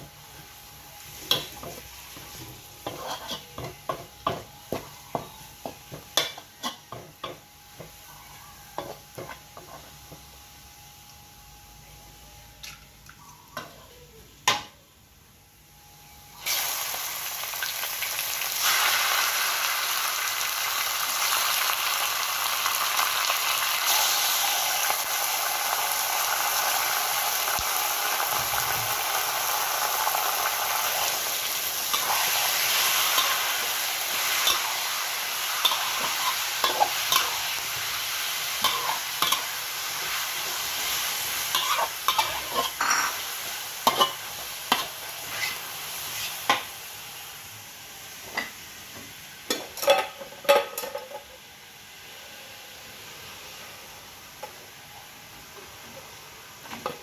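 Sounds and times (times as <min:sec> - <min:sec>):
food sizzling in a pan: 0:00.0 - 0:11.3, 0:16.3 - 0:57.0.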